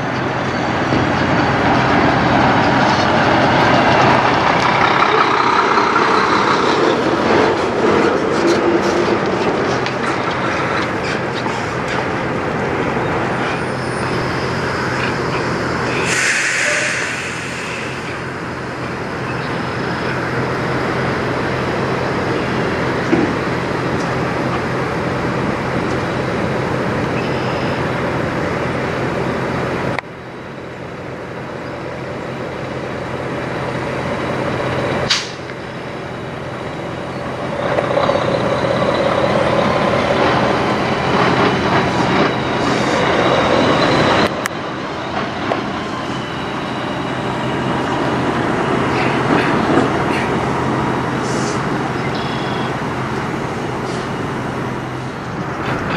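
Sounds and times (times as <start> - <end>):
truck diesel engine: 0.0 - 55.9.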